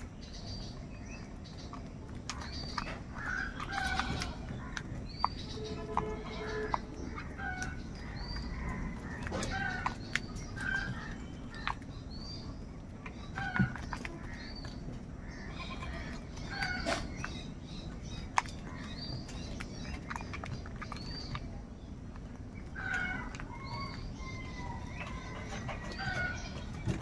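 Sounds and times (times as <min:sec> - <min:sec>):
birds calling: 0:00.0 - 0:27.0
low background rumble: 0:00.0 - 0:27.0.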